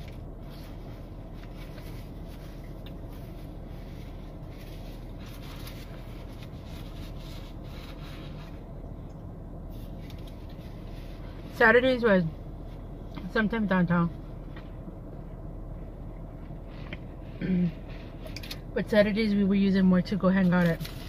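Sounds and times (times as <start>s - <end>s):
car cabin hum: 0.0s - 21.0s.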